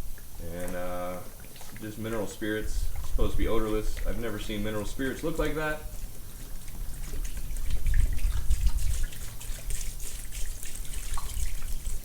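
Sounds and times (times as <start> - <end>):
liquid trickling and splashing: 0.0 - 12.0.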